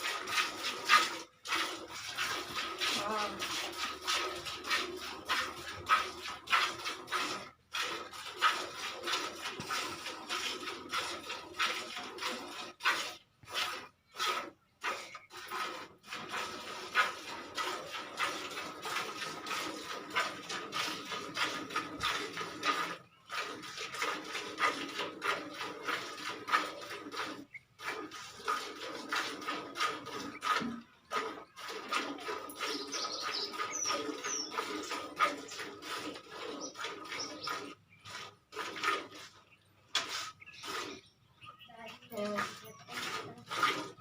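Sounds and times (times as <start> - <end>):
milk squirting into a pail: 0.0 - 41.1, 42.3 - 44.0.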